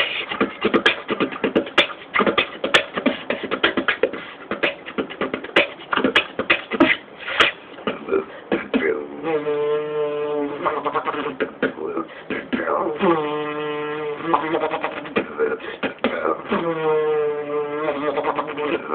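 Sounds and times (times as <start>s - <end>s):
beatboxing drum sounds: 0.0s - 18.9s
held humming tone: 0.0s - 18.9s.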